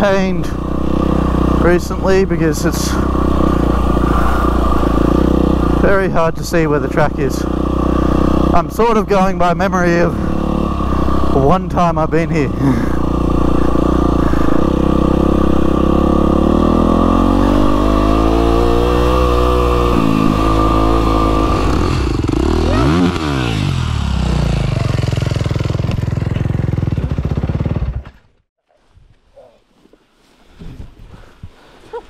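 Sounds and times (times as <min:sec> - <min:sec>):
dirt bike engine revving: 0:00.0 - 0:28.2.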